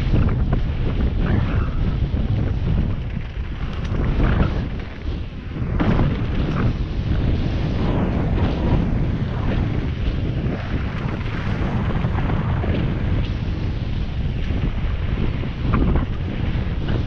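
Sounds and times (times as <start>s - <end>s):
bike rattling and clicking: 0.0s - 17.0s
bike tyres rumbling on dirt: 0.0s - 17.0s
wind buffeting microphone: 0.0s - 17.0s.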